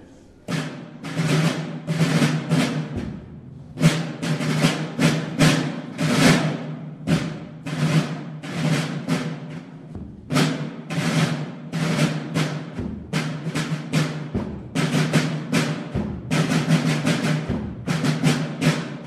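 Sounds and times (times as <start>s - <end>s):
field drums beating march: 0.0s - 19.0s.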